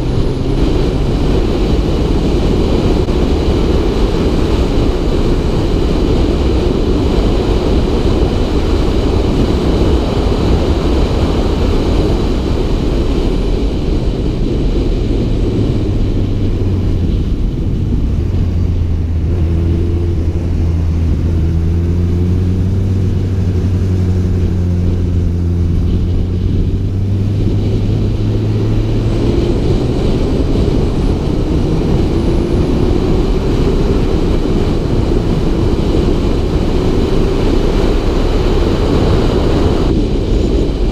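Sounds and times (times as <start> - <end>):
motorcycle engine: 0.0 - 40.9
wind rushing over camera: 0.0 - 40.9.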